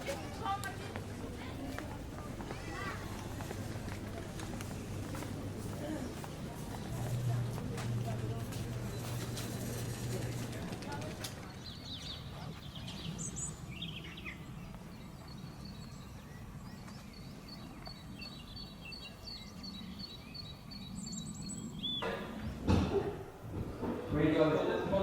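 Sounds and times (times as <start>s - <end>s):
small birds chirping: 0.0s - 22.7s.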